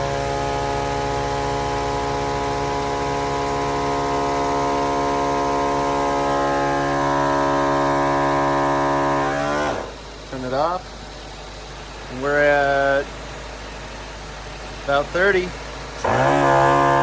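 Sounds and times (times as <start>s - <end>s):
air compressor humming: 0.0s - 17.0s.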